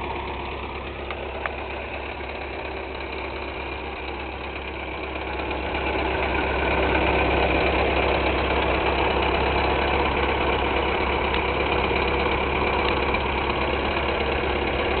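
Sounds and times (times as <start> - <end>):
car engine running steadily: 0.0 - 15.0.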